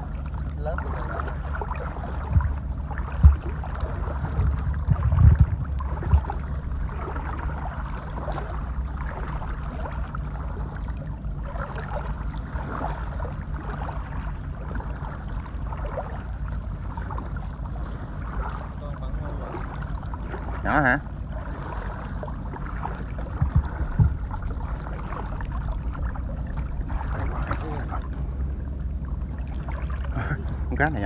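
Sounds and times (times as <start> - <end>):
wading through water: 0.0 - 31.0
wind rumble on microphone: 0.0 - 31.0.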